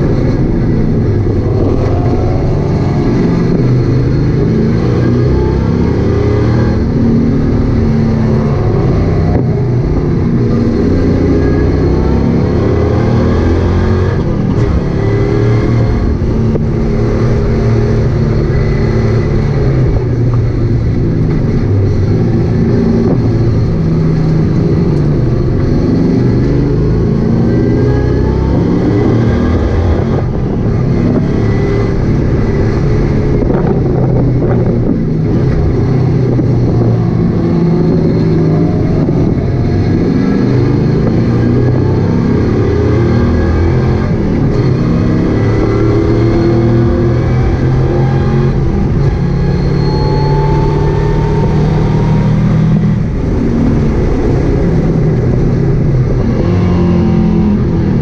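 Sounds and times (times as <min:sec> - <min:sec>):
car engine revving: 0:00.0 - 0:58.0
road and wind noise: 0:00.0 - 0:58.0.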